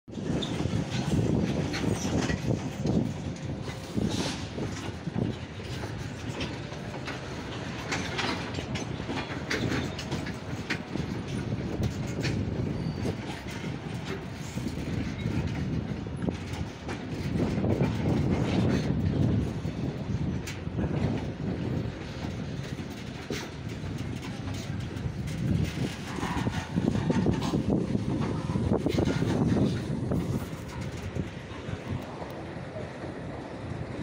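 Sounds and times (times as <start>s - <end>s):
train rumble: 0.1s - 34.0s
train wheels clattering over joints: 0.1s - 34.0s.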